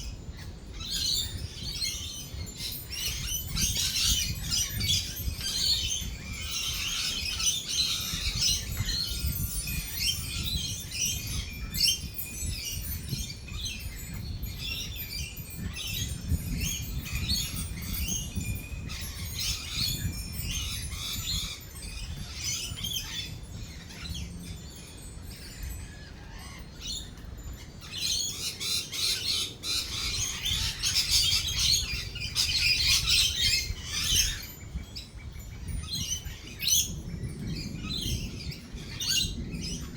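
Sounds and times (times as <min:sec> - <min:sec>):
lorikeets chattering and screeching: 0:00.4 - 0:39.9.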